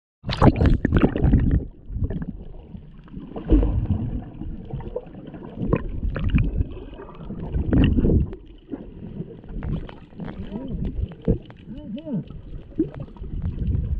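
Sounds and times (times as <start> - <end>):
underwater rushing and gurgling water: 0.2 - 13.9.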